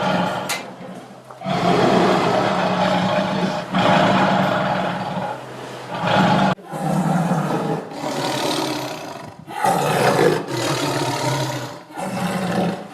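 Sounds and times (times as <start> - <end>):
tiger roaring: 0.0 - 0.6, 1.4 - 12.9.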